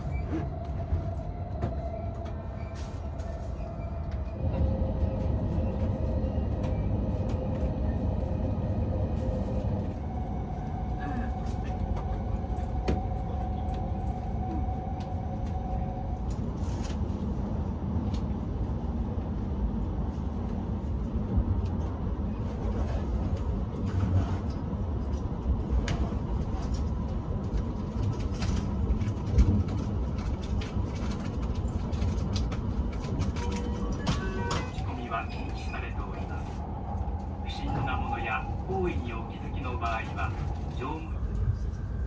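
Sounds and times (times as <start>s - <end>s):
train cabin rumble: 0.0s - 42.0s.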